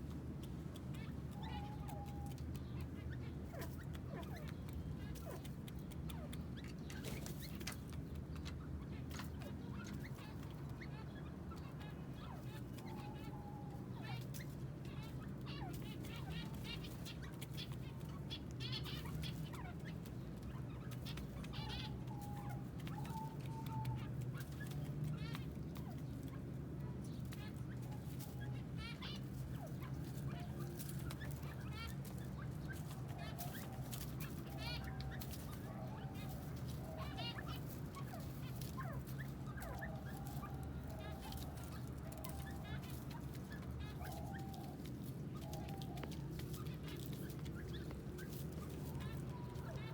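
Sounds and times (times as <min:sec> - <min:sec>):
birds chirping and clucking: 0:00.0 - 0:49.9.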